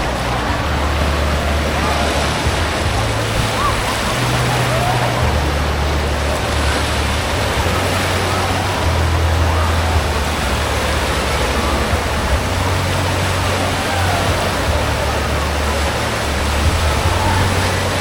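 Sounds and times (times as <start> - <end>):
churning water rushing: 0.0 - 18.0
distant voices calling out: 0.0 - 18.0.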